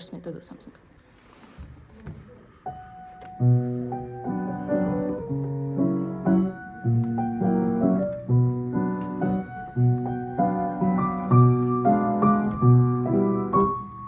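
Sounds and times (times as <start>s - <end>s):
piano chords: 2.5s - 14.0s.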